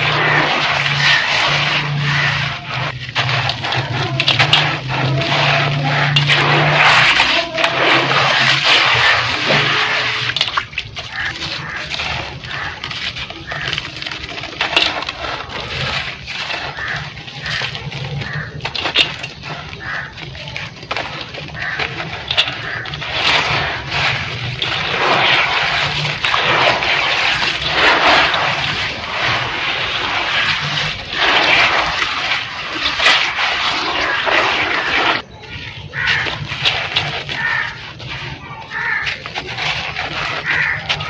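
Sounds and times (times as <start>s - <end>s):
dirt crumbling in water: 0.0s - 41.0s.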